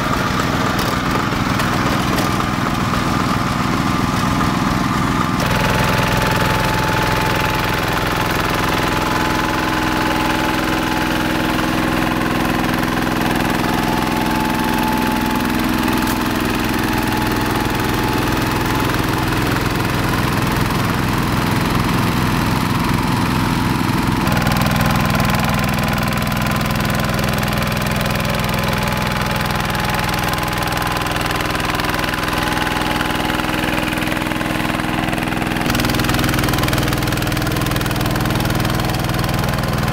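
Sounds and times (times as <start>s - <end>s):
diesel hand tractor engine running: 0.0s - 39.9s.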